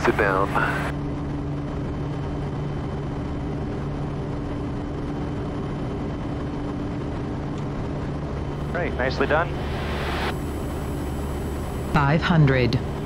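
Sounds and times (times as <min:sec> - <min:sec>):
turboprop engine droning: 0:00.0 - 0:13.0.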